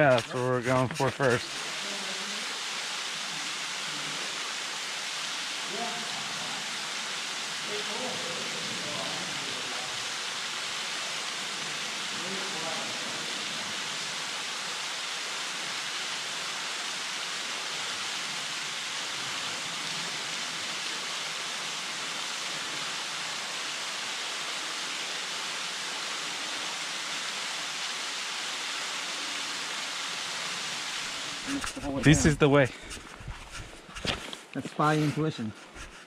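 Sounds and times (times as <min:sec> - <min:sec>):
waterfall splashing: 0:00.0 - 0:32.6.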